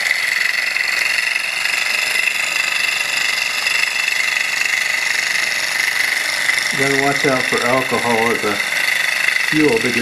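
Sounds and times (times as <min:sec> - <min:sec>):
small engine rattling on tile floor: 0:00.0 - 0:10.0.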